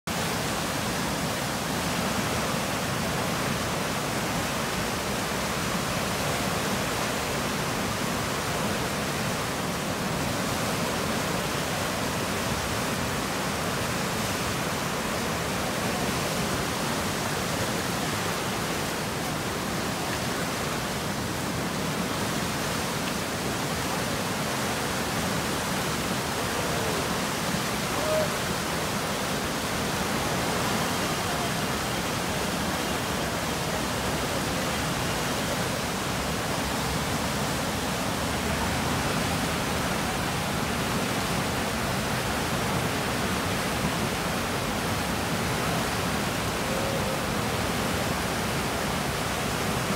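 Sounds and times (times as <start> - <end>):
rushing river water: 0.0 - 49.9.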